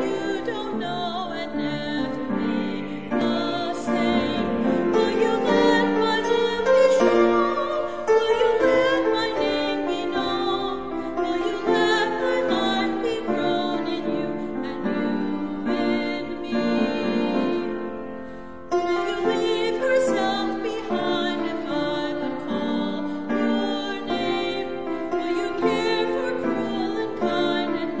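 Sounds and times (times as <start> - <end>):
woman singing a hymn: 0.0 - 18.0, 18.7 - 28.0.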